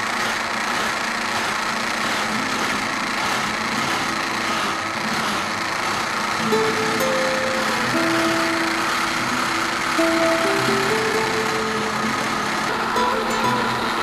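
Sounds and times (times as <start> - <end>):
juicer motor running: 0.0 - 14.0.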